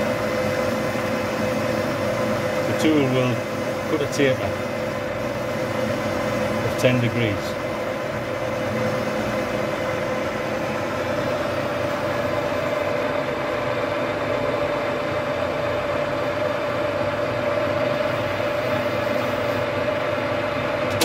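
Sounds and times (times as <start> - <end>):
lathe motor hum and whine: 0.0 - 21.0.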